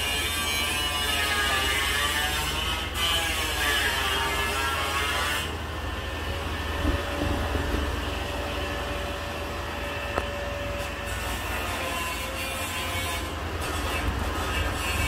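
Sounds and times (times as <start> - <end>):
machine hum with whine: 0.0 - 15.0
dense whining sound: 1.6 - 15.0.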